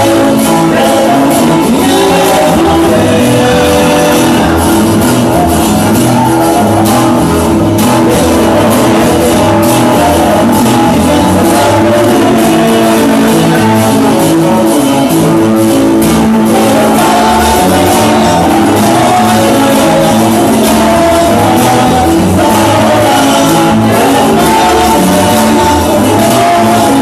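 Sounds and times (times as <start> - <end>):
loud band music with guitar: 0.0 - 27.0.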